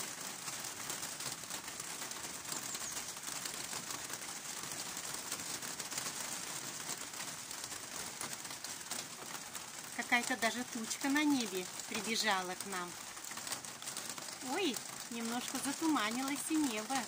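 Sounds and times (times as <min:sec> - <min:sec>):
rain on leaves and pavement: 0:00.0 - 0:17.0.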